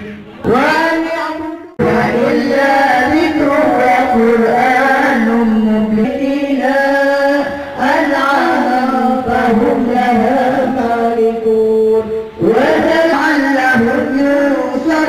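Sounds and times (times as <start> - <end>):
women chanting into microphones: 0.4 - 15.0.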